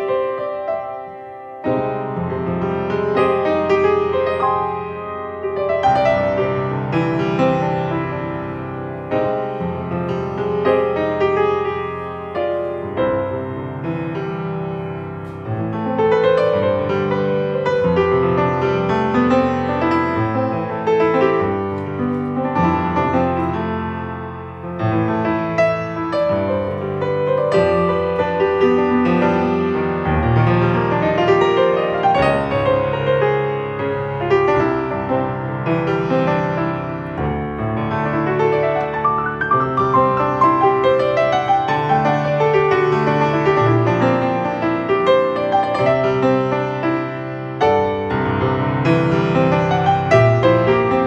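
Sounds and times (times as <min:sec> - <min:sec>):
solo piano: 0:00.0 - 0:51.0.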